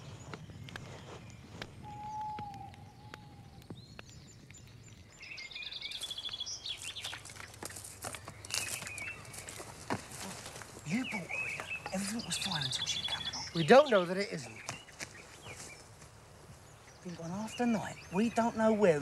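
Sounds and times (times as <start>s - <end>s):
birds calling and singing: 0.0s - 19.0s.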